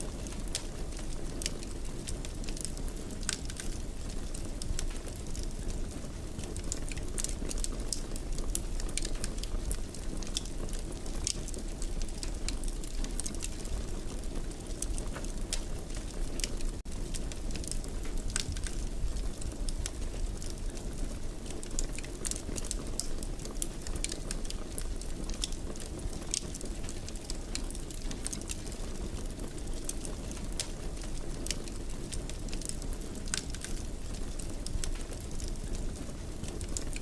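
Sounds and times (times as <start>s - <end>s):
fire crackling in fireplace: 0.0s - 37.0s.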